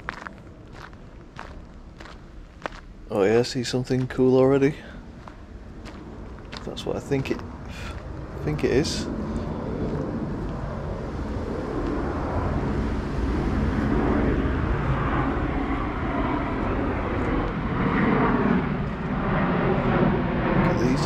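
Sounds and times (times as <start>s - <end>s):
aircraft rumble overhead: 0.0s - 21.0s.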